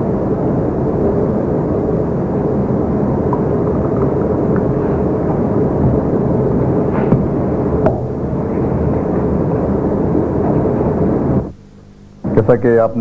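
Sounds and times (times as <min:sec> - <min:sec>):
machine rumbling: 0:00.0 - 0:13.0.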